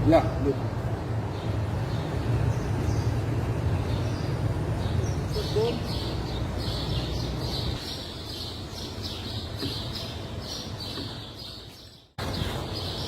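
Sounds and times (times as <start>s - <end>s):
bird chirping: 1.2s - 13.0s.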